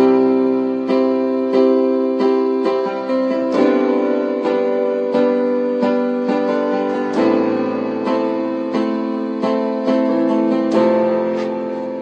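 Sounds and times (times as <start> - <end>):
keyboard playing sustained chords: 0.0 - 12.0.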